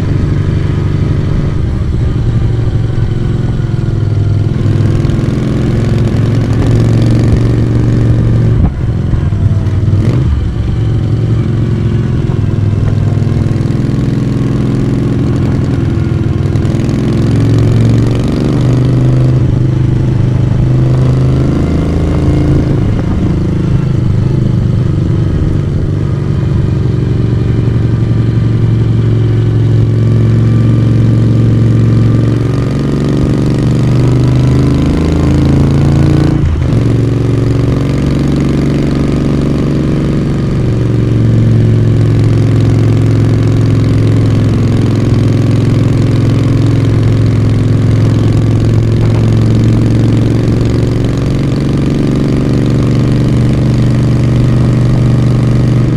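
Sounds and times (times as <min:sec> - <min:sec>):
motorcycle engine and exhaust running: 0:00.0 - 0:55.9.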